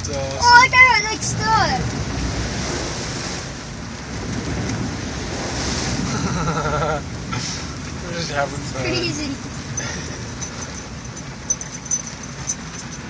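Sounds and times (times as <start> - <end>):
floodwater rushing against vehicle: 0.0 - 13.0.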